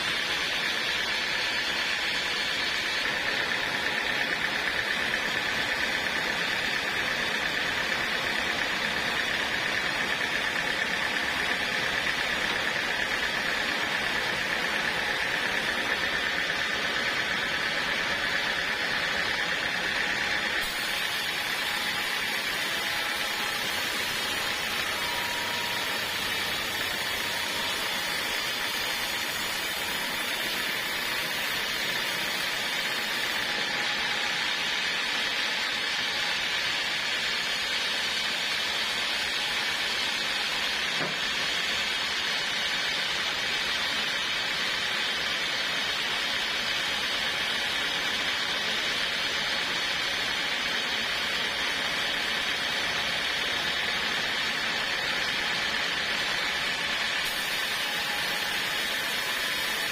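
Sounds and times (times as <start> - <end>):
sawmill running: 0.0 - 59.9.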